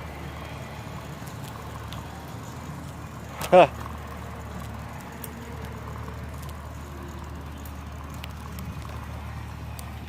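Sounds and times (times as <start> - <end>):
faint ticks: 0.0 - 10.0
road noise: 0.0 - 10.0
vehicle engine hum: 0.0 - 10.0.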